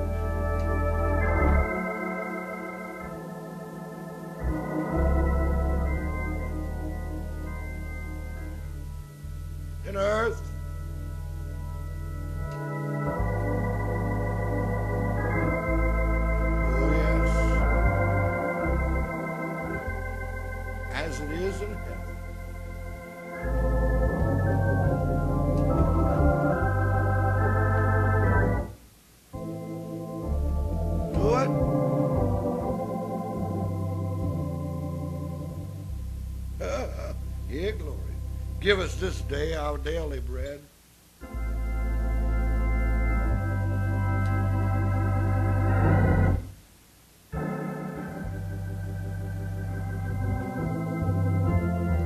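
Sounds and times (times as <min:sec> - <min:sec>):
organ playing chords: 0:00.0 - 0:52.0.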